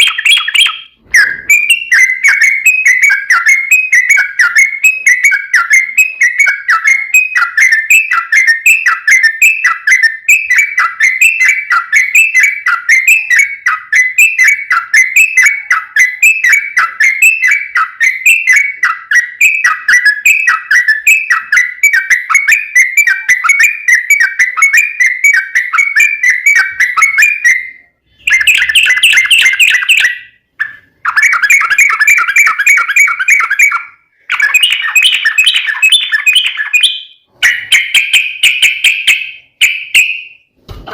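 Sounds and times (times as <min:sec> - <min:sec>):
bird singing chattering notes: 0:00.0 - 0:40.4.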